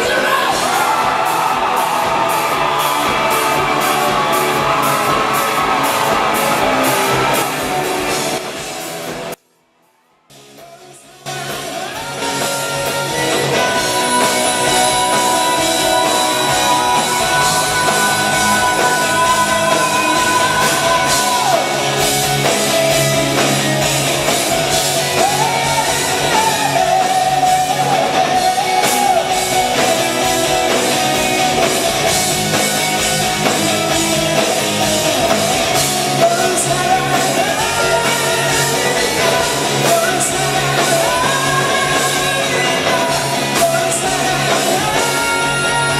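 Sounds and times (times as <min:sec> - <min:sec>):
lead singer: 0:00.0 - 0:09.3, 0:10.3 - 0:45.9
bass guitar: 0:00.0 - 0:09.4, 0:10.3 - 0:45.9
electric guitar: 0:00.0 - 0:09.4, 0:11.2 - 0:45.9
drums: 0:00.0 - 0:45.9.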